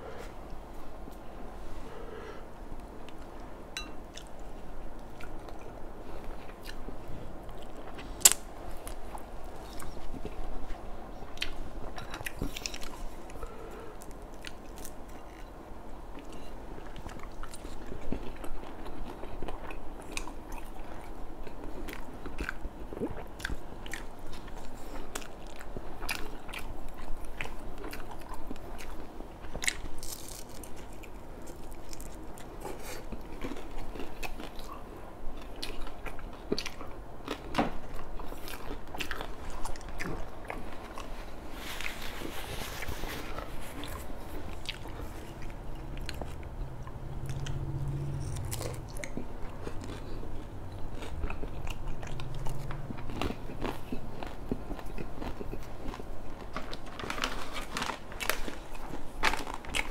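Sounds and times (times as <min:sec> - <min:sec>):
person chewing crispy fish: 0:04.1 - 0:59.9.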